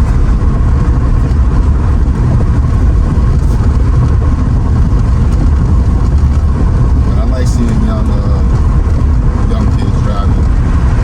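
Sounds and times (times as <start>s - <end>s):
engine and road noise: 0.0s - 11.0s.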